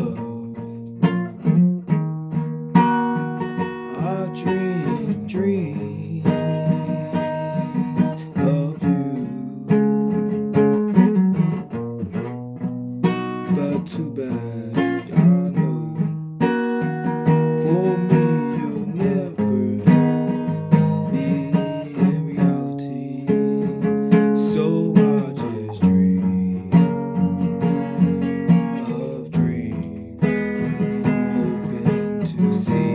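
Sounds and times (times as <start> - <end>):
guitar strummed and picked: 0.0 - 32.9.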